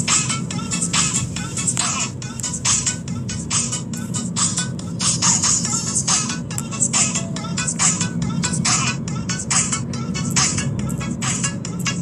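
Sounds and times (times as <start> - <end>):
car rumble: 0.0 - 12.0
music with steady beat: 0.0 - 12.0.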